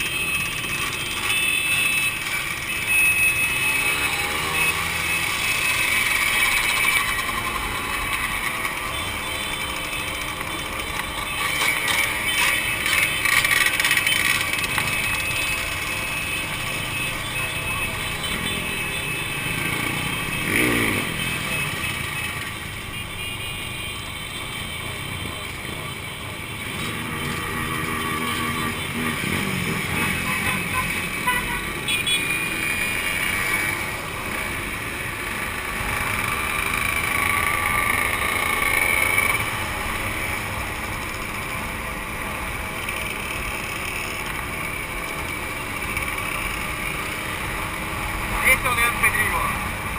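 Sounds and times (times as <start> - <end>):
two-stroke motorcycle engines revving: 0.0 - 49.9.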